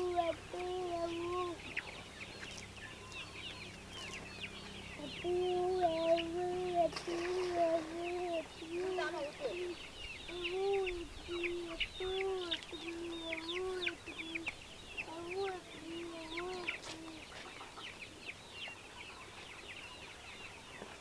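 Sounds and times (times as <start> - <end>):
chickens clucking: 0.0 - 19.8.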